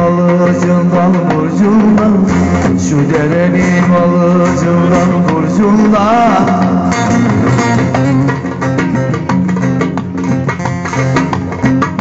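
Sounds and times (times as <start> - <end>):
low accompaniment: 0.0 - 12.0
plucked string instrument: 0.0 - 12.0.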